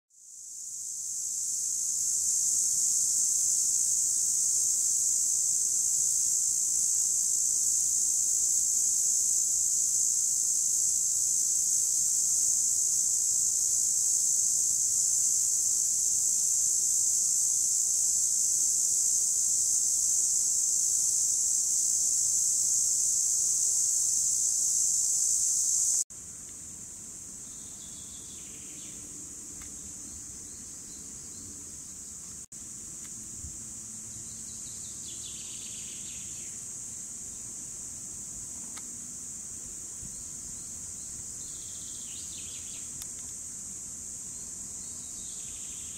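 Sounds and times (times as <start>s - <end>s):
cicada buzzing: 0.3s - 45.9s.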